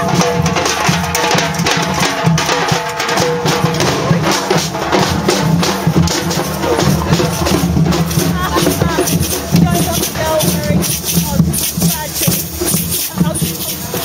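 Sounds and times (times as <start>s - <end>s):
band playing music: 0.0s - 14.0s
loud steady drumming: 0.0s - 14.0s.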